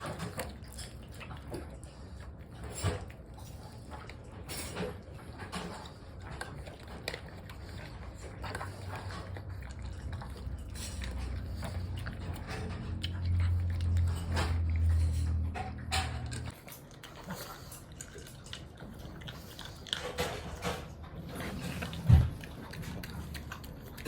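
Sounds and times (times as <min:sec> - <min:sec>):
dog crunching food: 0:00.0 - 0:24.0.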